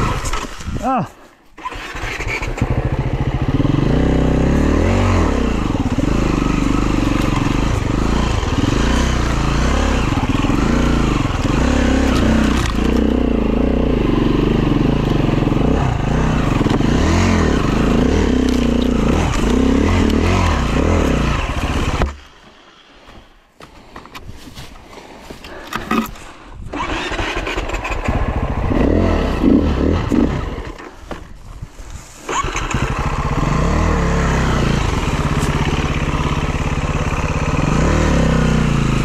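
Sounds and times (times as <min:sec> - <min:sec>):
dirt bike engine revving: 0:01.6 - 0:22.2, 0:26.7 - 0:30.8, 0:32.3 - 0:39.0.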